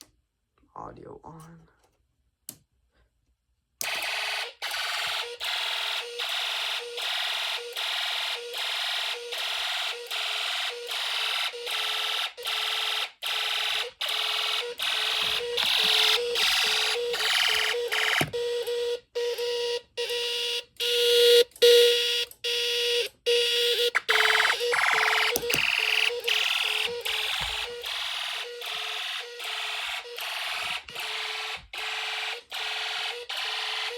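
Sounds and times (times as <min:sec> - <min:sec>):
pulsing buzzy electronic alarm: 0:03.9 - 0:33.9.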